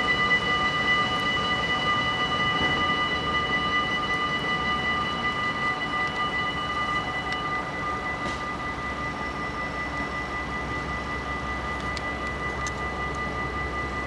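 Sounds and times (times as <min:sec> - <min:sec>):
level-crossing warning bells: 0:00.0 - 0:14.0.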